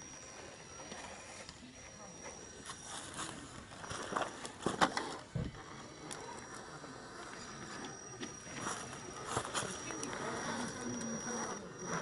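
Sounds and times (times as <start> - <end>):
electric motor whine: 0.0 - 12.0.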